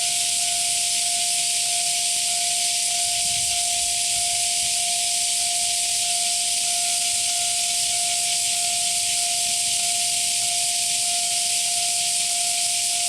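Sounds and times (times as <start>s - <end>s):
level-crossing warning bell: 0.0s - 13.0s.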